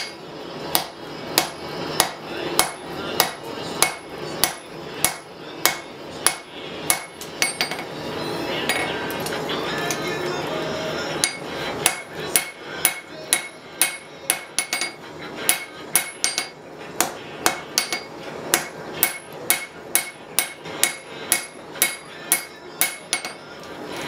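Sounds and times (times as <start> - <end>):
hammer striking steel on anvil: 0.0 - 8.0, 8.7 - 9.0, 11.2 - 23.5.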